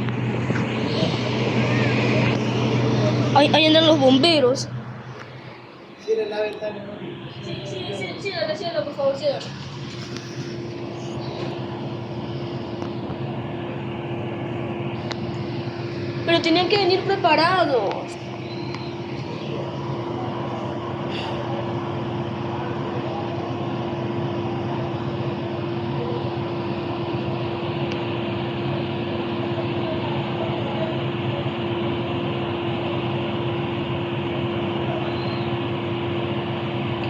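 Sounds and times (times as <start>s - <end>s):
mechanical drone: 0.0s - 37.0s.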